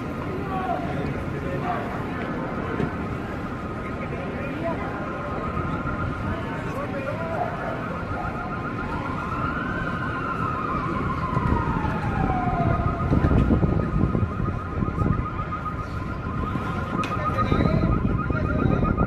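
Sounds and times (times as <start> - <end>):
siren wailing: 0.0 - 19.0
street noise: 0.0 - 19.0
fast-pulsing alarm tone: 3.4 - 19.0.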